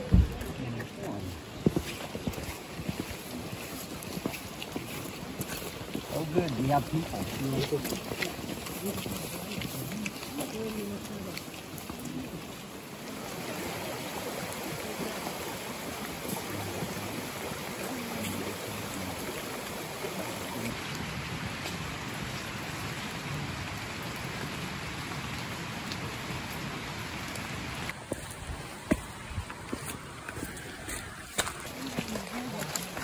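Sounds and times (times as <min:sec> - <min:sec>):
rushing water: 0:00.0 - 0:33.0.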